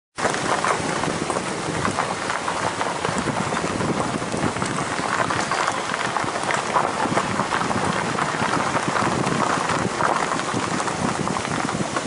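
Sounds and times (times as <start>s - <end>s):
creek water rushing over rocks: 0.2s - 12.0s.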